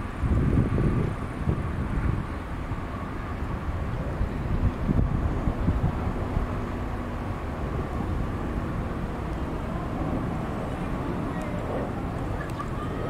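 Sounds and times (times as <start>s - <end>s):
distant jet engine rumble: 0.0s - 13.0s
wind buffeting microphone: 0.0s - 13.0s.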